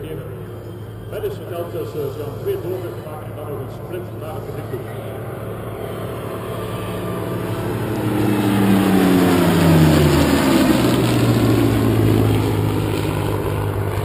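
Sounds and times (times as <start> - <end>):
jet engine flying past: 0.0 - 14.0
piston engine plane flying past: 0.0 - 14.0.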